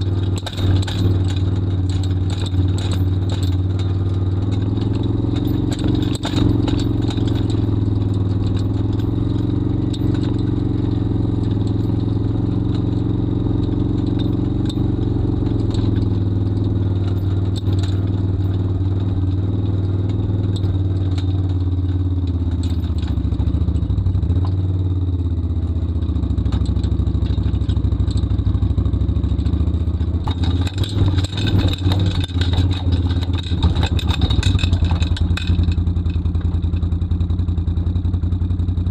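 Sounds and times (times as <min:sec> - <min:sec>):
metal trailer frame rattling: 0:00.0 - 0:24.6, 0:26.3 - 0:37.1
quad bike engine running: 0:00.0 - 0:38.9.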